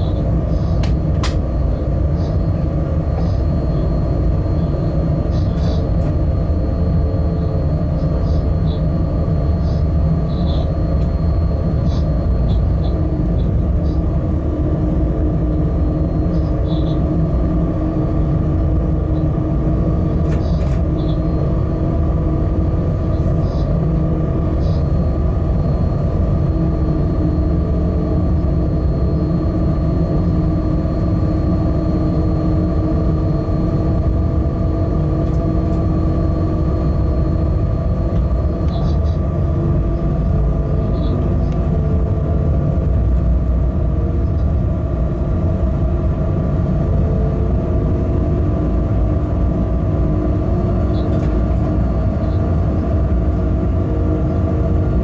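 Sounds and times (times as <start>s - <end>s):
running gear hum and whine: 0.0s - 55.0s
wheels rumbling on rails: 0.0s - 55.0s.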